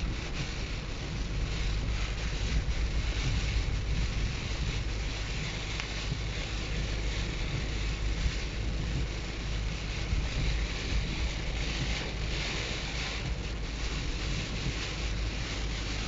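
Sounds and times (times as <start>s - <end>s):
storm wind blowing hard: 0.0s - 16.0s
wind buffeting microphone: 0.0s - 16.0s.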